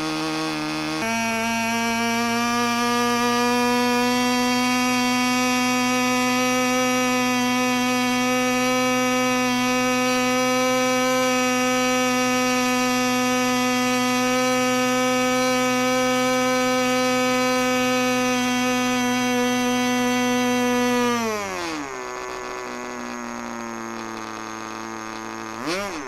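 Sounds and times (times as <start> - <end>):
model engine high-pitched buzz: 0.0 - 26.0.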